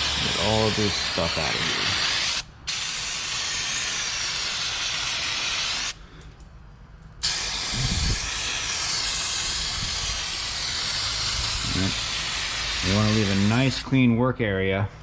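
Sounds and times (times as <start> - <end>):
aerosol can spraying hiss: 0.0 - 6.0, 7.2 - 13.8.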